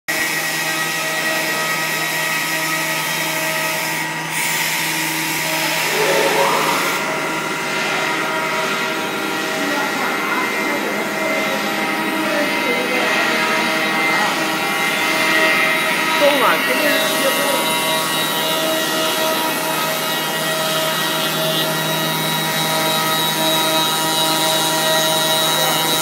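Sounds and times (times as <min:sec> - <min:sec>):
wood router machine whine: 0:00.1 - 0:26.0.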